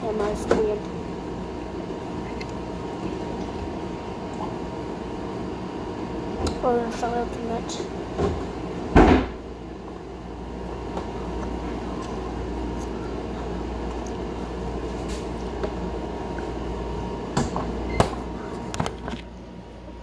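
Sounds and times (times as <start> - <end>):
appliance or fan humming: 0.0 - 20.0.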